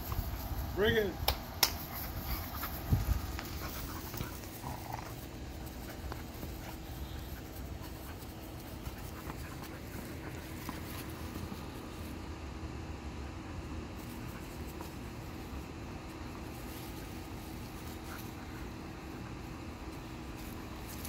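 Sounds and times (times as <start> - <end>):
dogs panting: 1.8 - 12.2, 13.1 - 21.0.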